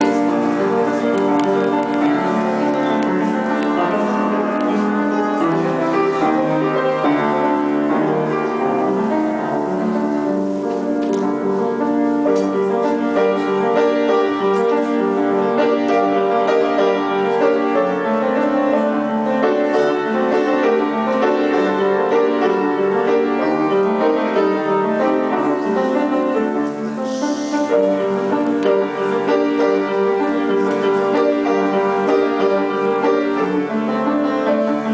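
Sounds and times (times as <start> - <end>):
piano piece: 0.0 - 34.9.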